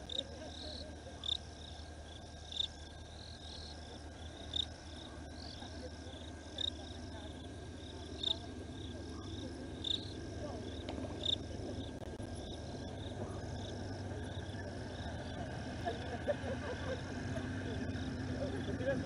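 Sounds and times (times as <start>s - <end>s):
crickets chirping: 0.0s - 19.0s
low steady hum: 0.0s - 19.0s.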